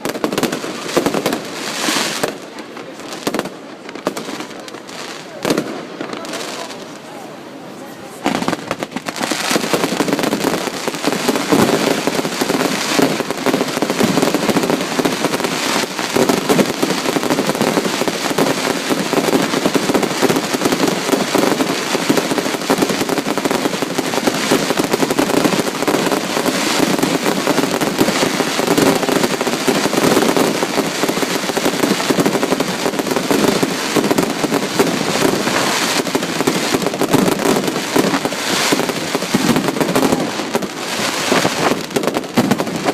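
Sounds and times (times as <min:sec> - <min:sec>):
fireworks bursting and crackling: 0:00.0 - 0:42.9.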